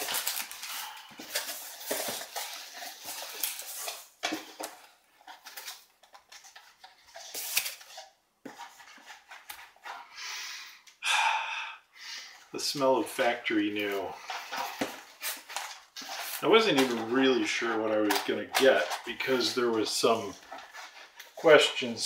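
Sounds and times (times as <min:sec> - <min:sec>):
packing sheets rustling: 0:00.0 - 0:09.7, 0:13.8 - 0:22.0.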